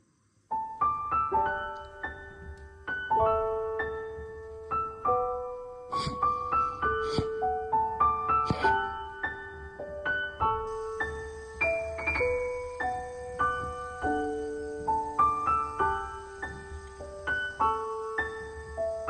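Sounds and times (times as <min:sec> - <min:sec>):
piano music: 0:00.5 - 0:19.0.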